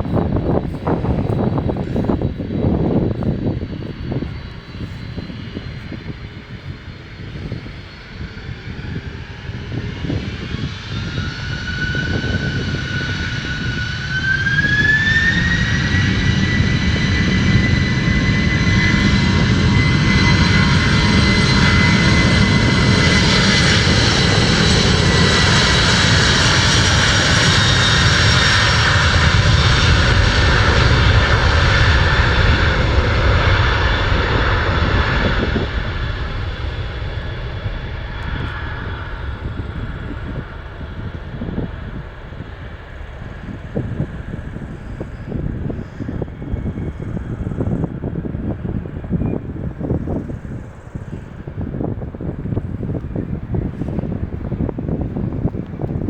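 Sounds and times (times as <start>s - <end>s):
jet engine rumble: 0.0s - 56.0s
jet engine whine: 0.0s - 56.0s.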